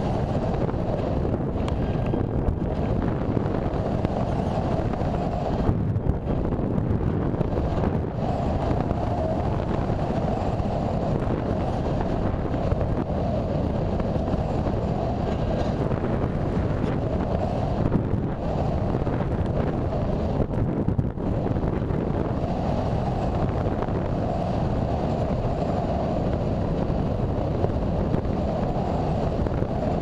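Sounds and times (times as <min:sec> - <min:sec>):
air rushing over microphone: 0:00.0 - 0:30.0.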